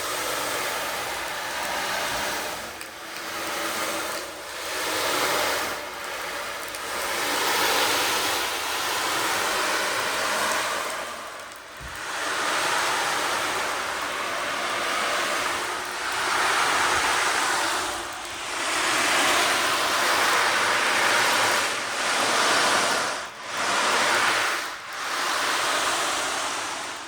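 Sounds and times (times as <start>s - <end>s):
surf-like hissing noise: 0.0s - 27.0s.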